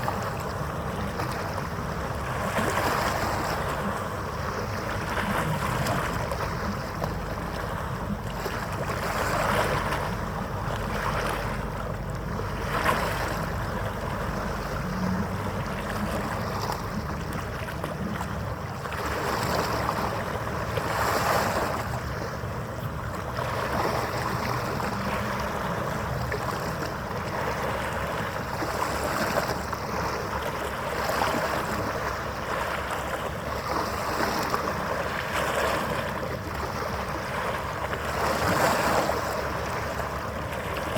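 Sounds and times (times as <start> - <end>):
faint steady hum: 0.0 - 40.9
water lapping: 0.0 - 40.9
wind: 0.0 - 40.9.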